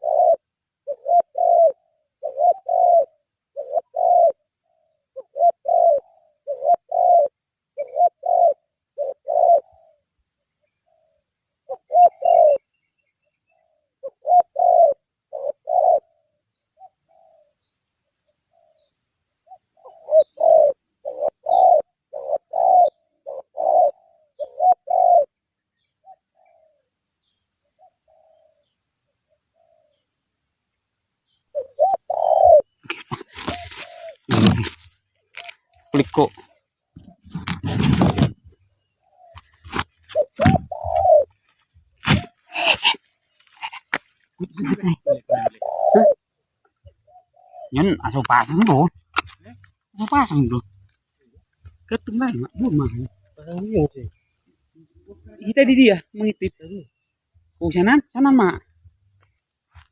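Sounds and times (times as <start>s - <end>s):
dove cooing: 0.0s - 10.1s, 10.8s - 12.7s, 13.5s - 17.5s, 18.5s - 25.4s, 26.0s - 26.9s, 27.8s - 28.8s, 29.5s - 30.0s, 31.5s - 55.6s.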